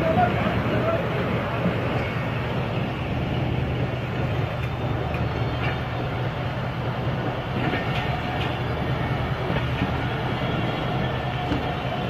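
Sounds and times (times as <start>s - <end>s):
locomotive engine rumbling: 0.0s - 12.0s
train coaches rolling past: 0.0s - 12.0s.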